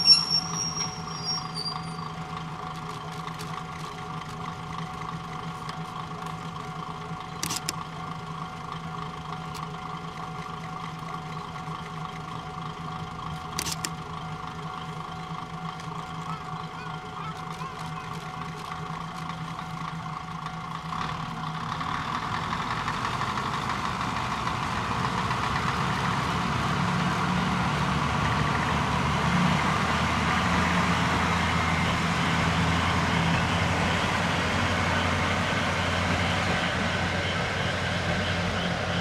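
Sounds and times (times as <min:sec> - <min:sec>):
diesel railcar engine humming: 0:00.0 - 0:39.0.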